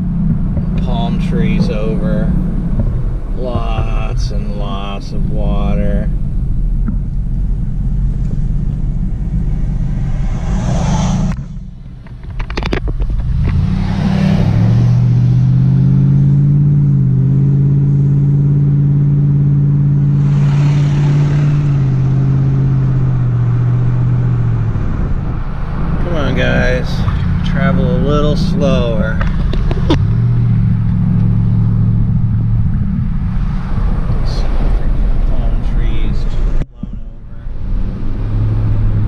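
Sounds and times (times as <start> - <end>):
truck engine and road rumble: 0.0 - 39.0.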